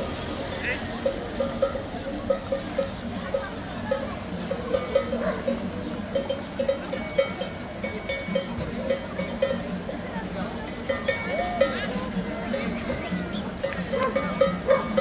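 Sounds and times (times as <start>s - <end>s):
livestock bell clanking: 0.0s - 15.0s.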